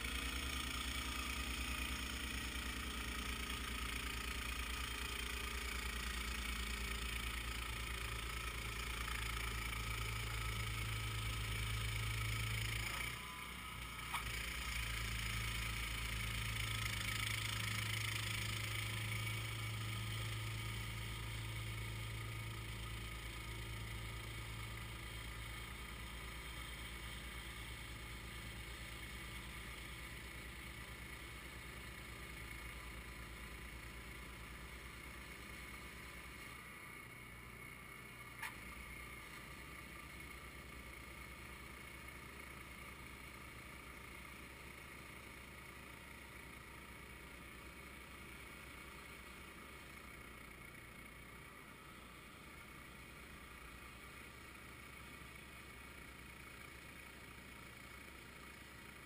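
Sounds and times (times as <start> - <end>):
distant snowblower engine: 0.0 - 59.0.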